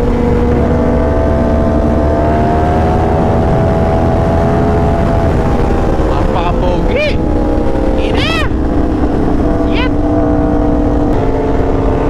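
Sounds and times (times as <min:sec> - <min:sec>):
motorcycle engine running: 0:00.0 - 0:12.0
wind rumble: 0:00.0 - 0:12.0.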